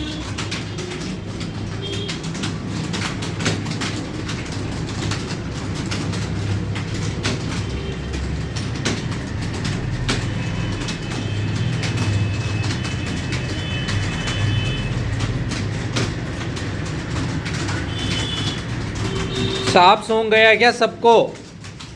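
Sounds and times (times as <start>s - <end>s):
keyboard typing clatter: 0.0s - 21.9s.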